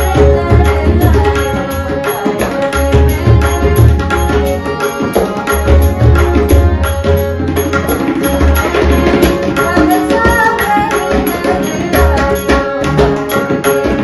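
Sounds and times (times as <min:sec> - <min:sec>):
hand drums fast rhythm: 0:00.0 - 0:14.0
sustained harmonium notes: 0:00.0 - 0:14.0.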